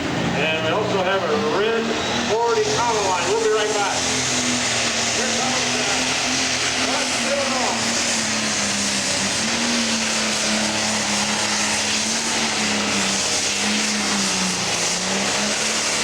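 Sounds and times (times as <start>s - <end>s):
diesel engine at full power: 0.0s - 16.0s.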